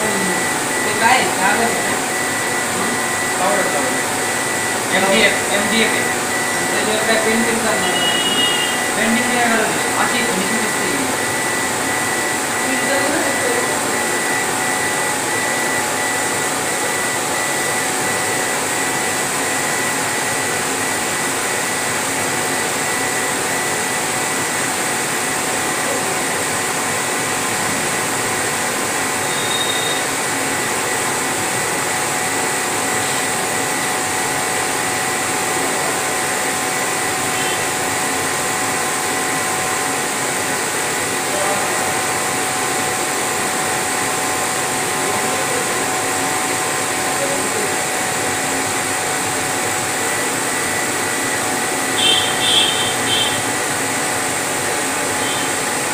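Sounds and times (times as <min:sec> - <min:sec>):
steady blower noise: 0:00.0 - 0:55.9.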